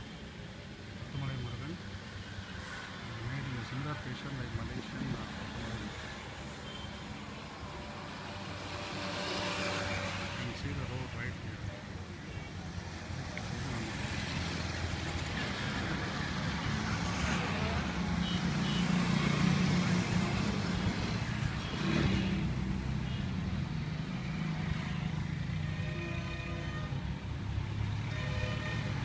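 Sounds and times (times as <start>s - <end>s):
highway traffic passing: 0.0s - 29.0s.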